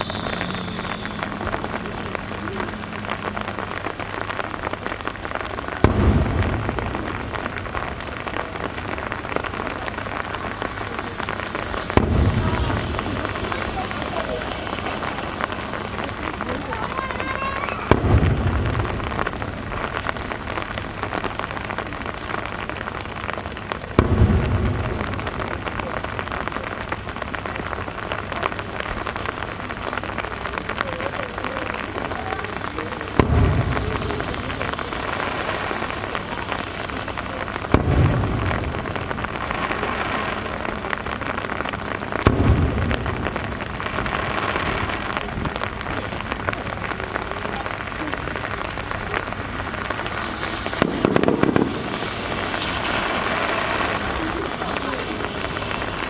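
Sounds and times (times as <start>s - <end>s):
firework shells booming: 0.0s - 56.0s
rain hissing: 0.0s - 56.0s.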